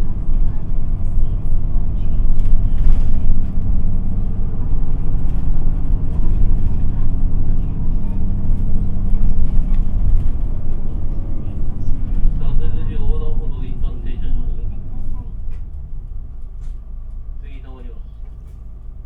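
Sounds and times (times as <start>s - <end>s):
bus diesel engine drone: 0.0s - 19.0s
low road rumble: 0.0s - 19.0s.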